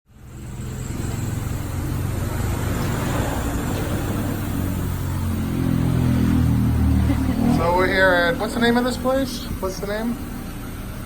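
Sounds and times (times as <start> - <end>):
vehicle engine running: 0.1 - 11.0.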